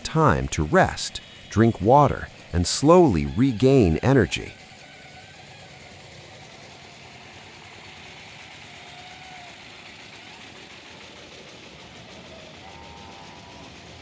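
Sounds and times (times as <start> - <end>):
engine-like rumble and hiss: 0.0 - 14.0.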